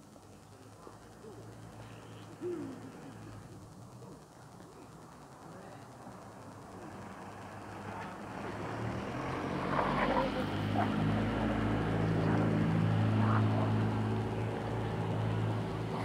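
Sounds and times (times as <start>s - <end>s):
engine running: 0.6s - 16.0s.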